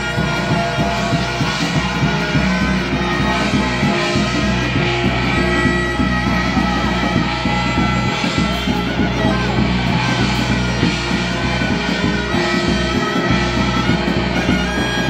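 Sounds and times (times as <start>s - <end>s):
ringing metal percussion: 0.0s - 15.0s
steady drum beat: 0.0s - 15.0s.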